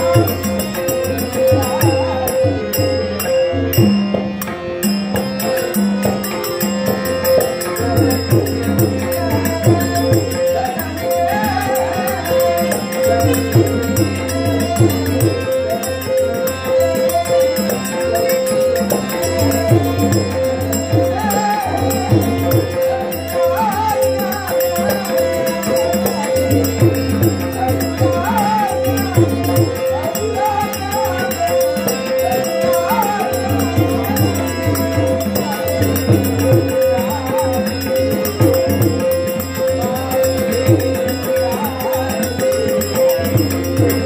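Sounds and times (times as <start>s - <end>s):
man singing: 0.0s - 3.2s, 7.6s - 44.0s
hand cymbals: 0.0s - 44.0s
harmonium drone: 0.0s - 44.0s
tabla rhythm: 0.0s - 44.0s.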